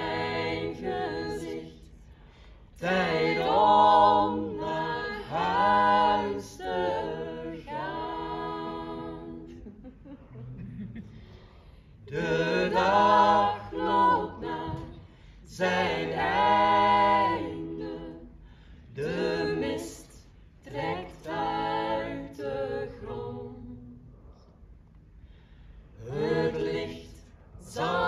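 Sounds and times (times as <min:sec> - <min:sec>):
group singing a cappella: 0:00.0 - 0:10.1, 0:10.9 - 0:24.5, 0:25.9 - 0:28.0.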